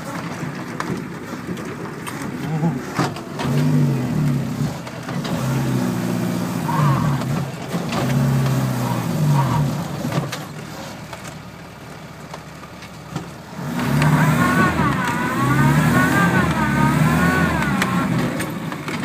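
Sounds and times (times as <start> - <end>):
diesel engine from inside cab: 0.0 - 19.0.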